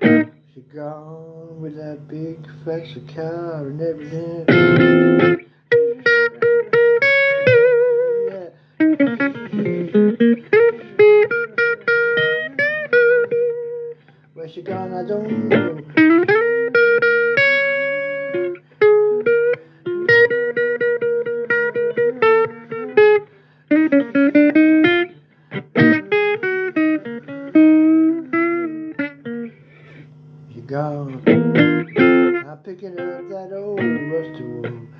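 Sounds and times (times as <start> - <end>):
electric guitar blues lead: 0.0 - 34.9
steady low hum: 0.0 - 34.9.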